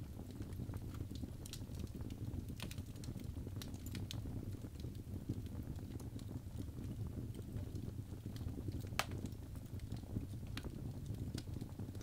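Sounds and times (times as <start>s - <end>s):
fire crackling and popping: 0.0s - 12.0s
low rumble of flames: 0.0s - 12.0s.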